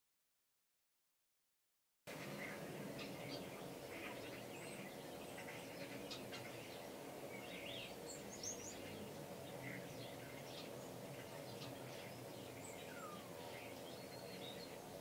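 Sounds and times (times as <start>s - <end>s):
small birds chirping: 2.1s - 15.0s
steady low background noise: 2.1s - 15.0s.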